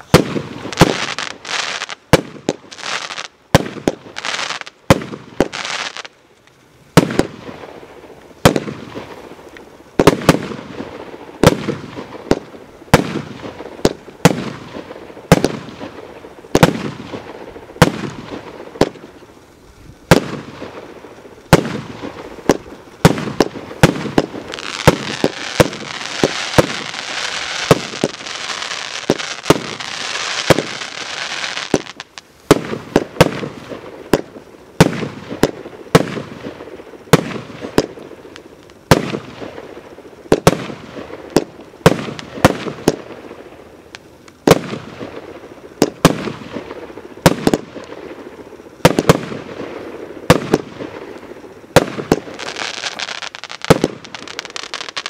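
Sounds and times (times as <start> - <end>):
firework bangs: 0.0 - 6.1, 6.9 - 19.3, 20.0 - 55.0
firework crackle: 0.0 - 55.0
hissing of burning firework sparks: 0.0 - 55.0.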